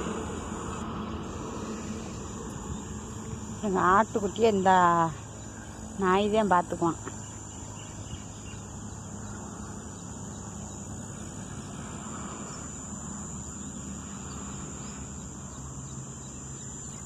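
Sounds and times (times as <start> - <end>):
high thin insect trill: 0.0 - 17.0
steady low noise: 0.0 - 17.0.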